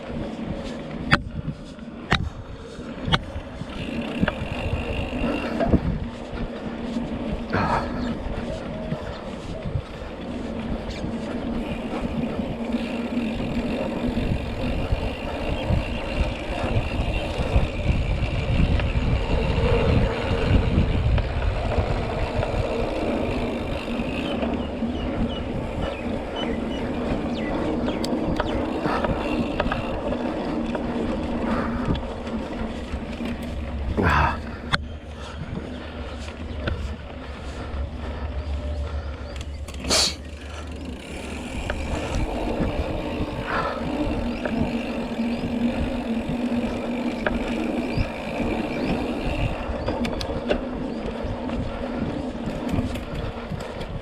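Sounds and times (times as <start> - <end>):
bike tyres rumbling on dirt: 0.0 - 54.0
wind rushing over microphone: 0.0 - 54.0.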